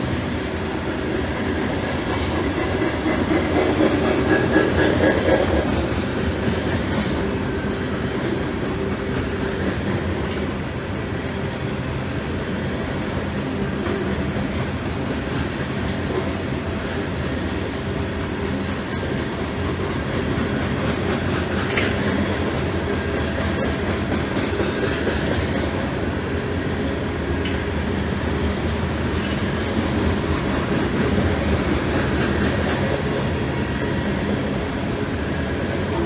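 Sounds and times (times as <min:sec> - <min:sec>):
steel wheels on rails: 0:00.0 - 0:36.0.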